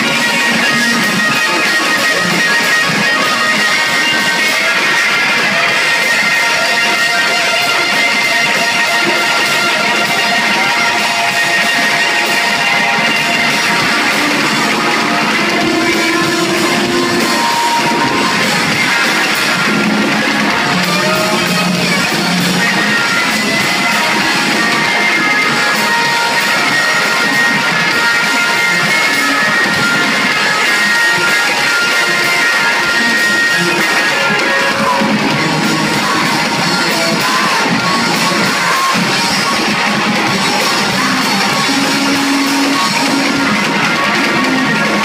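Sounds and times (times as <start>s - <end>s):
rock band playing live: 0.0s - 45.0s.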